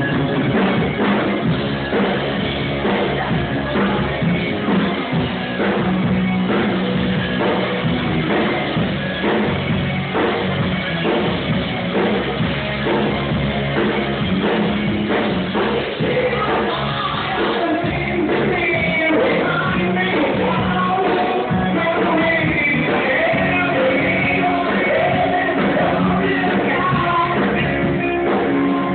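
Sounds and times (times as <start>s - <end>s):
rock music with singing: 0.0s - 28.9s.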